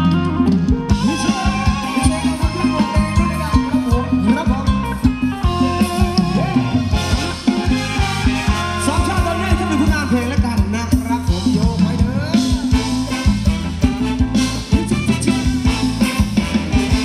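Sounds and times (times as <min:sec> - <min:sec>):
live band playing dance music: 0:00.0 - 0:17.0.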